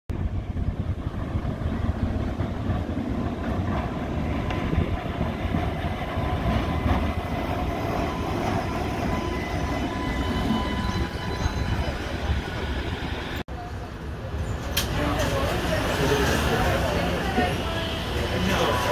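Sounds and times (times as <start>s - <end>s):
streetcar wheels rumbling on rail: 0.1s - 18.9s.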